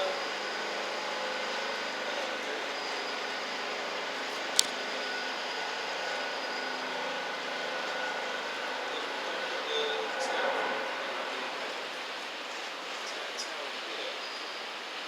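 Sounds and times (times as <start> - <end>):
city noise: 0.0 - 15.0.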